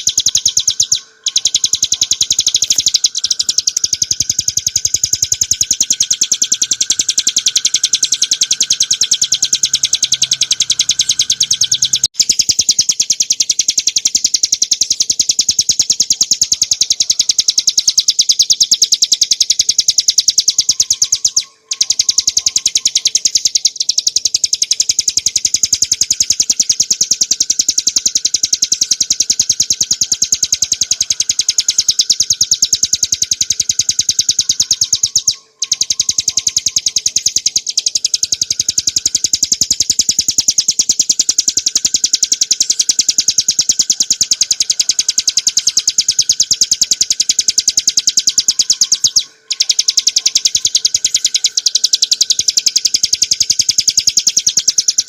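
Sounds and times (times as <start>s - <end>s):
bird singing high sharp notes: 0.0s - 55.0s.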